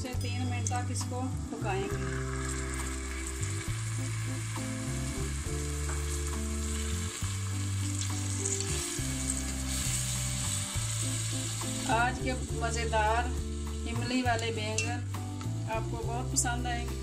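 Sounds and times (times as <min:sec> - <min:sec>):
gravy sizzling in oil: 0:00.2 - 0:17.0.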